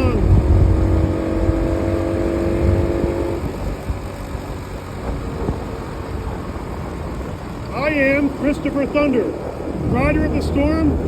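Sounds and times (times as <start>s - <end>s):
motorcycle engine running: 0.0s - 11.0s
road noise: 0.0s - 11.0s
wind rumble on microphone: 0.0s - 11.0s.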